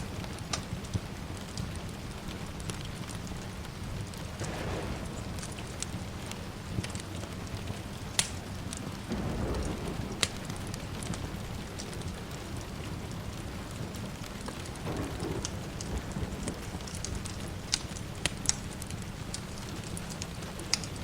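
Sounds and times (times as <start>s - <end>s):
steady rain falling: 0.0s - 21.0s
wood fire crackling: 0.0s - 21.0s
distant thunder rumble: 3.3s - 21.0s.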